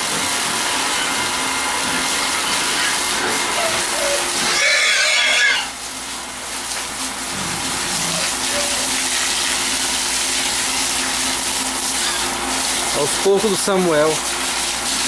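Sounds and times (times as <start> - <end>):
hose water spraying on concrete: 0.0 - 15.0.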